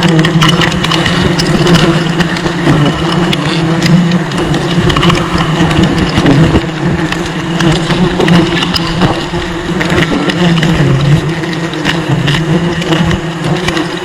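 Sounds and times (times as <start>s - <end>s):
honeybees buzzing: 0.0s - 14.0s
scattered clicks: 0.0s - 14.0s.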